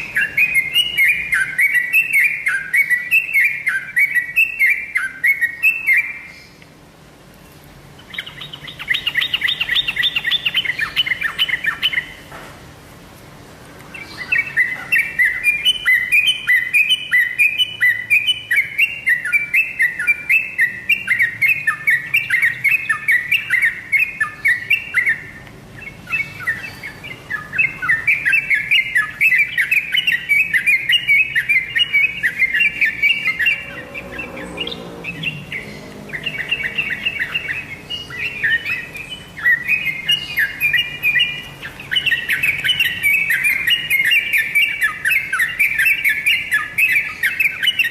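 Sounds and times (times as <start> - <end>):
bird chattering song: 0.0 - 6.7, 7.4 - 12.4, 13.8 - 47.9.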